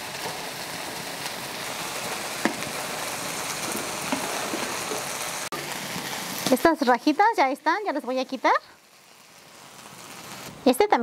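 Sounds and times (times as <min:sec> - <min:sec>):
salsa sizzling in frying pan: 0:00.0 - 0:11.0.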